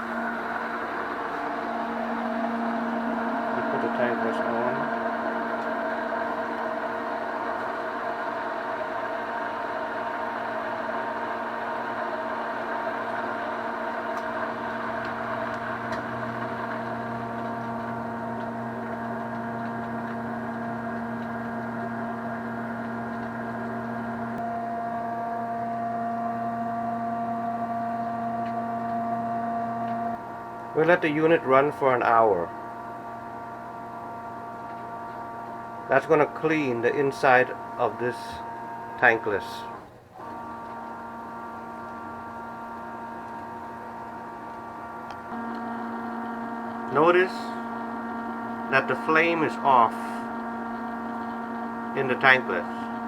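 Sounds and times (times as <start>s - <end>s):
mechanical hum with held tones: 0.0s - 53.0s.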